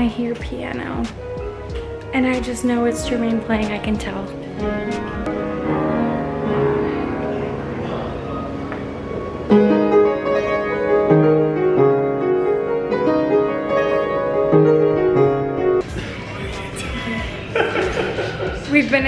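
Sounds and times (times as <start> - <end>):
piano playing: 0.0 - 18.8.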